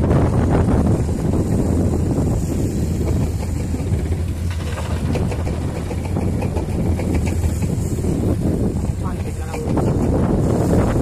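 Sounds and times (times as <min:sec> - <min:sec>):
diesel engines humming: 0:00.0 - 0:11.0.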